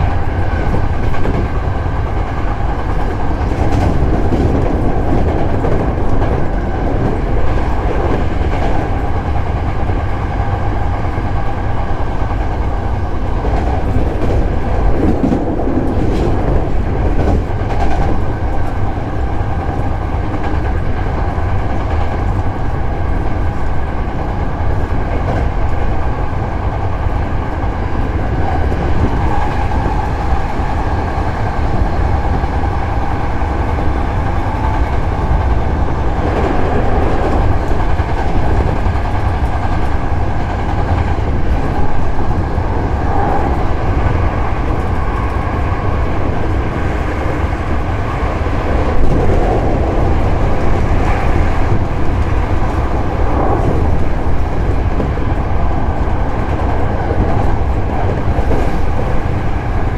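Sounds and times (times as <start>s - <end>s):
train rattles: 0.0s - 59.9s
train wheels rumbling on rail: 0.0s - 59.9s.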